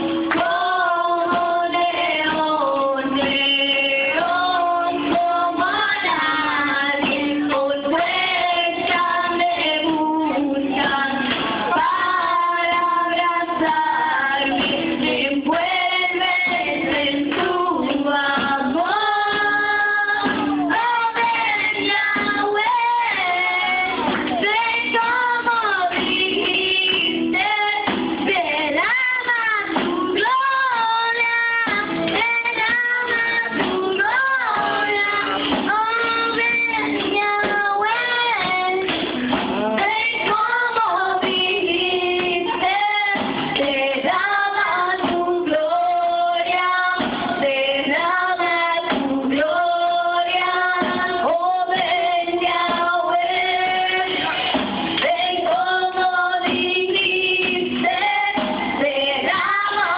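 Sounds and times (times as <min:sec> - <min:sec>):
women singing a worship song: 0:00.0 - 0:59.9.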